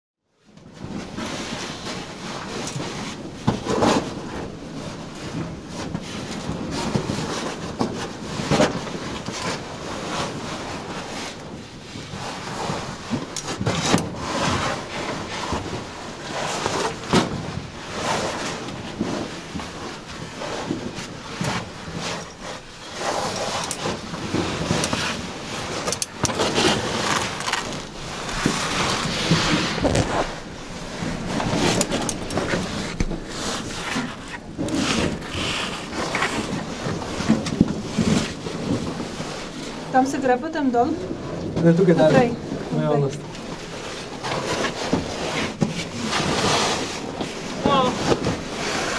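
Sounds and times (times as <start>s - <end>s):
fabric scraping against rock: 1.2s - 48.9s.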